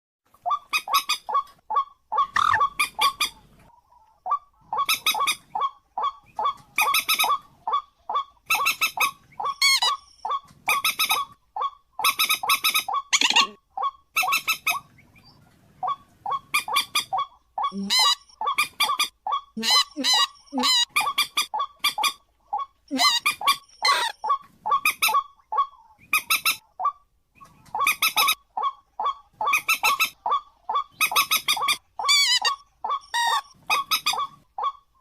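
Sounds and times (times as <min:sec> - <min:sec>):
bird calling sharp notes: 0:02.1 - 0:03.4, 0:04.8 - 0:15.2, 0:15.8 - 0:34.8.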